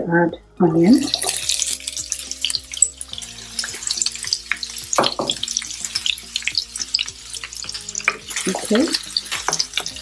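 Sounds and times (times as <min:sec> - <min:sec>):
onions sizzling in hot oil: 0:00.7 - 0:10.0.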